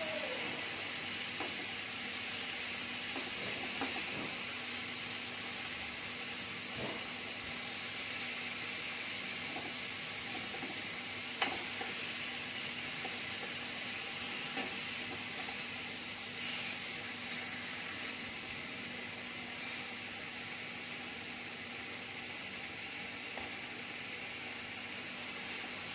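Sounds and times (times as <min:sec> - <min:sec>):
beef sizzling in frying pan: 0:00.0 - 0:25.9.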